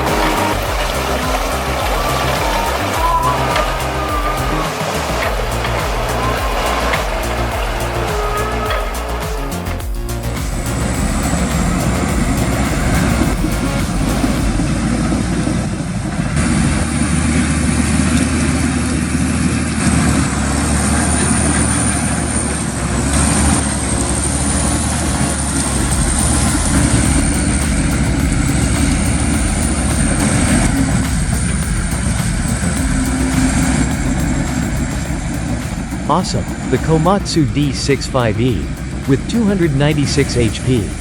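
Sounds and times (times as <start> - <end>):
thin high whine: 0.0 - 19.1, 19.8 - 41.0
heavy diesel engines running: 0.0 - 41.0.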